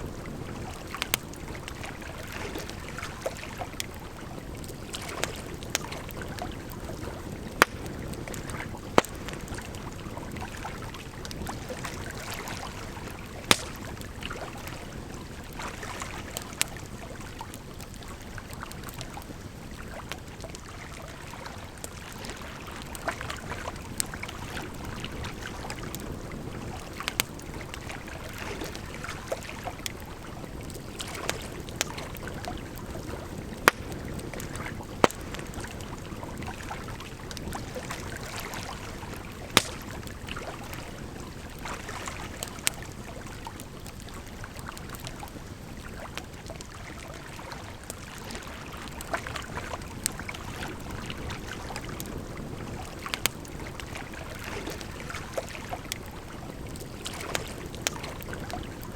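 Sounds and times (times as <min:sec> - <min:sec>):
campfire crackling and popping: 0:00.0 - 0:58.9
flowing water: 0:00.0 - 0:58.9.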